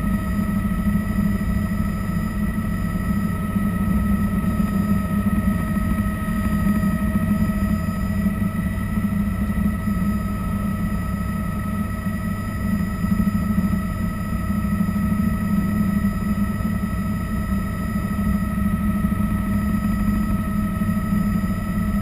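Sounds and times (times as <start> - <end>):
helicopter engine and rotors: 0.0 - 22.0.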